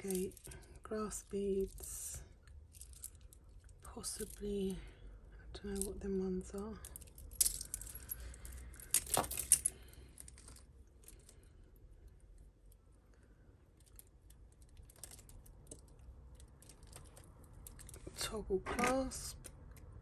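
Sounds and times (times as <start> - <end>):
beads and metal pieces clattering: 0.0 - 4.8, 5.6 - 11.5, 13.8 - 19.5.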